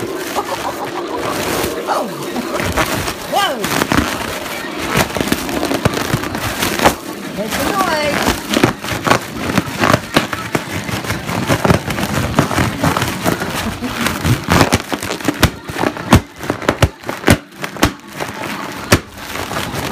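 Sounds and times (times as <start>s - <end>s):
fireworks bangs and crackles: 2.6s - 19.9s.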